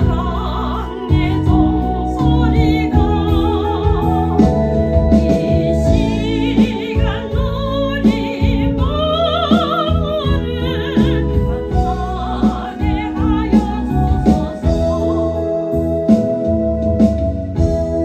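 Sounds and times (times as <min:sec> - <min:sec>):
person singing a hymn with vibrato: 0:00.0 - 0:16.8
sustained keyboard chords: 0:00.0 - 0:18.0.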